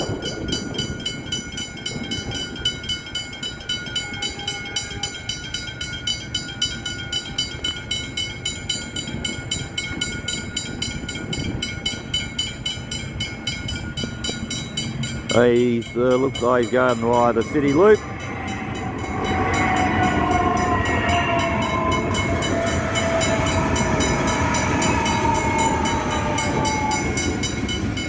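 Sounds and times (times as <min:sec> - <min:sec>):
electric train rumbling on tracks: 0:00.0 - 0:28.0
rapid high dings: 0:01.2 - 0:24.8.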